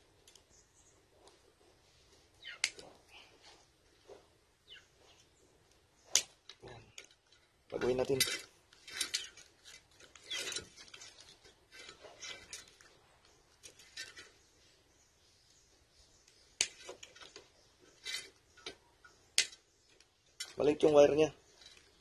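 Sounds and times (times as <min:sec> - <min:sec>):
wires rustling and clicking: 0:00.0 - 0:14.9, 0:16.2 - 0:22.0.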